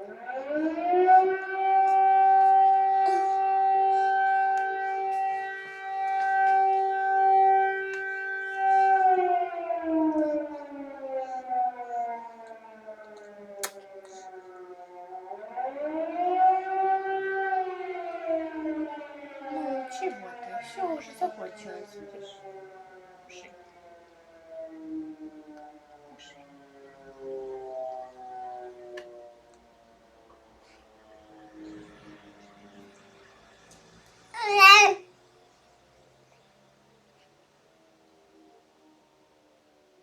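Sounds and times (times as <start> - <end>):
air raid siren wailing: 0.0 - 40.0.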